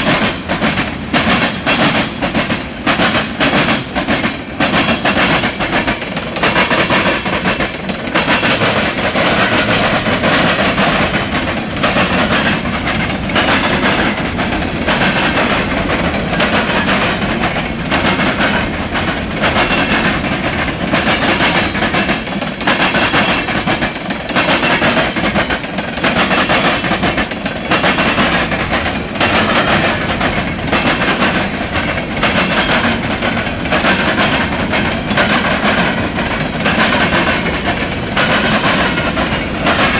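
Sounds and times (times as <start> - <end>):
freight train cars rolling: 0.0 - 39.9
wheels clicking over rail joints: 0.0 - 39.9.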